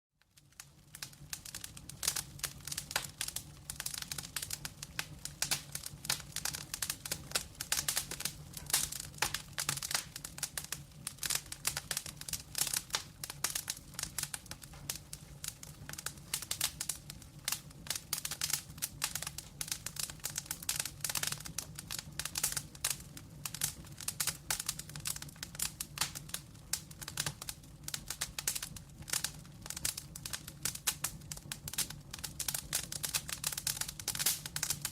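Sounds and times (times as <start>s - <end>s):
wood fire crackling: 0.2s - 34.9s.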